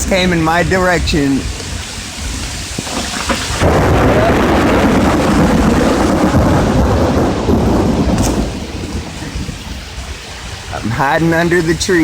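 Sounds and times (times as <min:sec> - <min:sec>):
thunderstorm rumble: 0:00.0 - 0:12.0.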